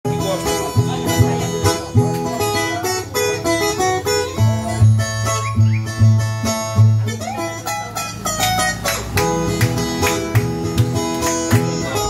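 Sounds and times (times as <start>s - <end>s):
plucked string melody: 0.1s - 12.0s.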